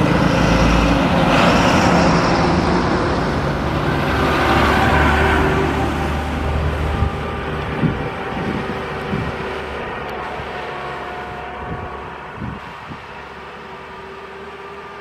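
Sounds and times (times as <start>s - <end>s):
wind on microphone: 0.0s - 13.4s
diesel bus engine rumble: 0.0s - 15.0s.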